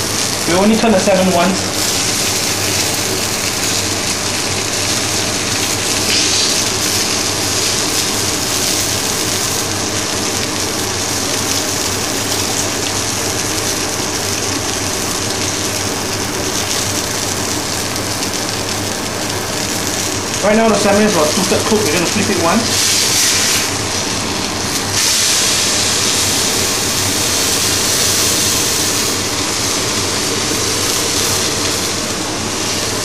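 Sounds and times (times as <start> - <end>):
fish sizzling in a pan: 0.0 - 33.0.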